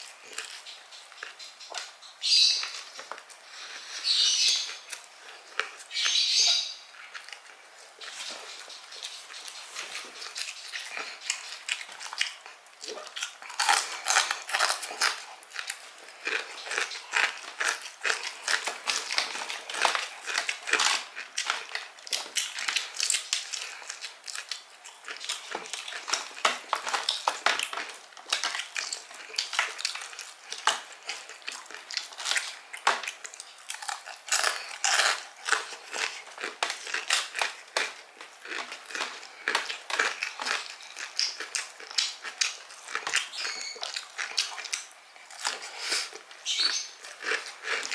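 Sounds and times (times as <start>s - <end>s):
chewing crispy fried chicken: 0.0s - 47.9s.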